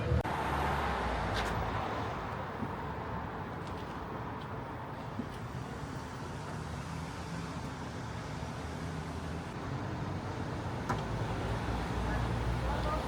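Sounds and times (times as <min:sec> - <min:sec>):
road vehicles rumbling: 0:00.0 - 0:13.0.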